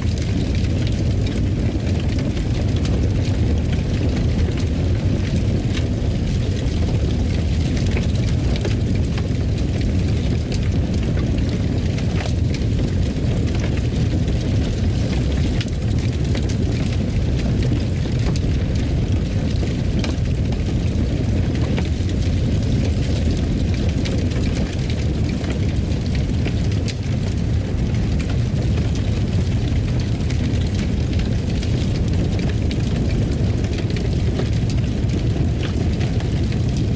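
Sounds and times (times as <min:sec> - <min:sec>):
rumble of flames: 0:00.0 - 0:36.9
wood crackles and pops: 0:00.0 - 0:36.9.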